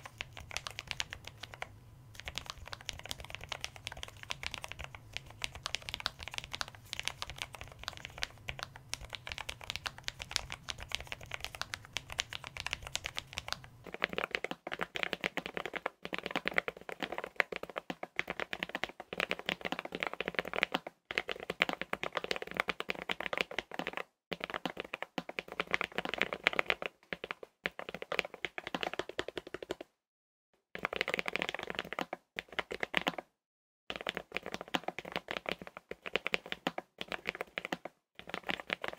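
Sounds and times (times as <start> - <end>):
mechanical keyboard typing: 0.0 - 29.8, 30.8 - 33.2, 33.9 - 38.9.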